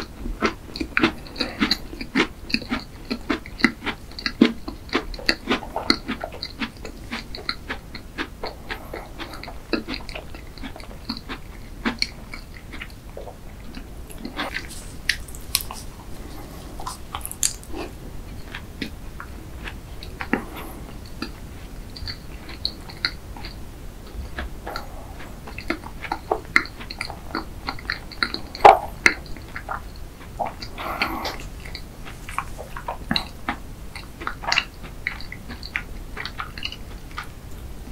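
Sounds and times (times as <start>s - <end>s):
wet mouth clicks: 0.0s - 37.7s
chewing crunches: 0.0s - 37.8s.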